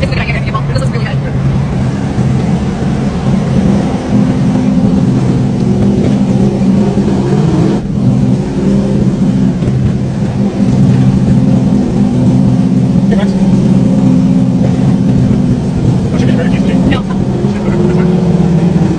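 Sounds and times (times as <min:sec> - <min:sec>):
truck engine running: 0:00.0 - 0:18.9.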